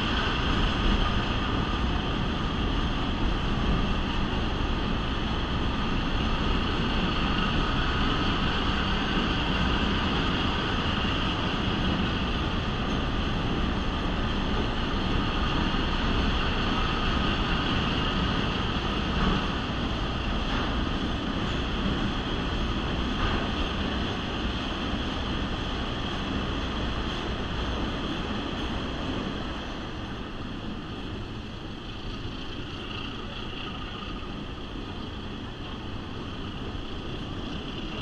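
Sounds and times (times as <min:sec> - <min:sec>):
train running in tunnel: 0:00.0 - 0:38.0.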